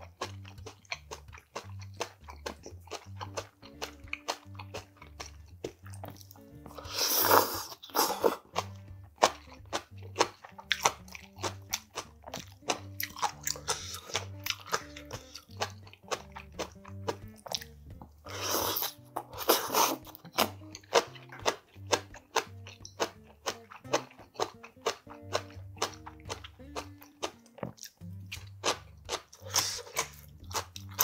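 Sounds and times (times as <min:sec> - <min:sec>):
crunchy chewing: 0:00.0 - 0:31.0
slurps: 0:00.0 - 0:31.0
soft background music with bass: 0:00.0 - 0:31.0.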